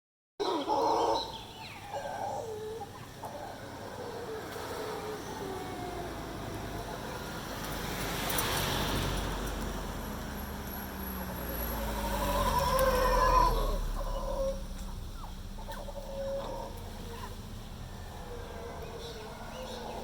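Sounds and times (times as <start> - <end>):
howler monkey roaring: 0.4 - 7.9, 11.1 - 20.0.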